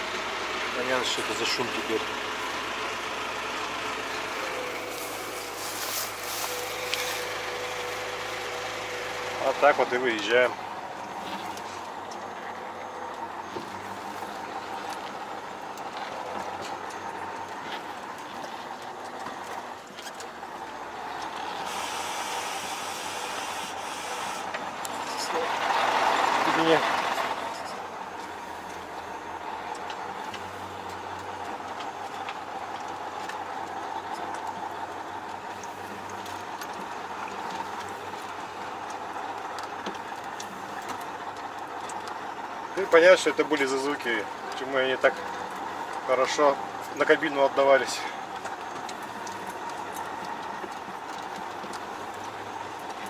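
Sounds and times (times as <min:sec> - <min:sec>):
road noise: 0:00.0 - 0:53.0
truck engine: 0:00.0 - 0:53.0.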